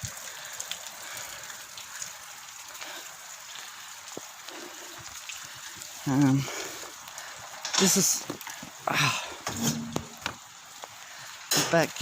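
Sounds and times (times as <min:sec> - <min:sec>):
heavy rain pattering: 0:00.0 - 0:12.0
water drips and taps: 0:00.0 - 0:12.0.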